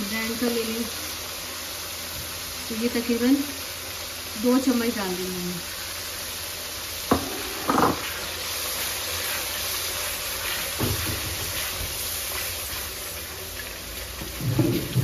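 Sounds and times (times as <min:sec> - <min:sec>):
spice paste sizzling in a pot: 0:00.0 - 0:15.0.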